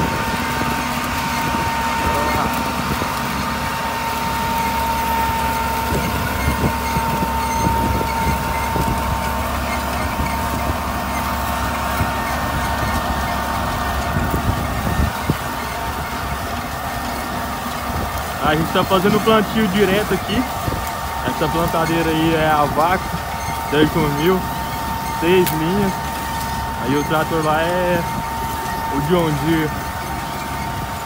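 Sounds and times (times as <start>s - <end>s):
tractor engine running under load: 0.0s - 31.0s.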